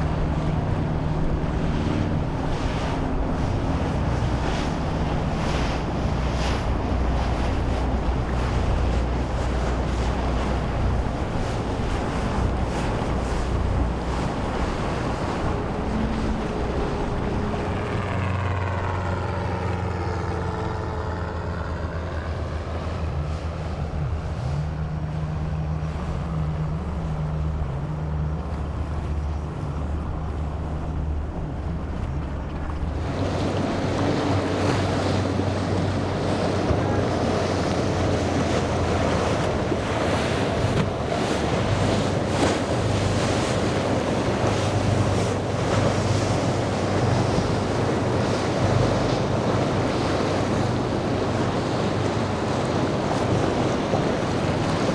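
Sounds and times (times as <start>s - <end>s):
powerboat engines droning: 0.0s - 54.9s
rushing wakes and waves: 0.0s - 54.9s
wind on microphone: 0.0s - 54.9s.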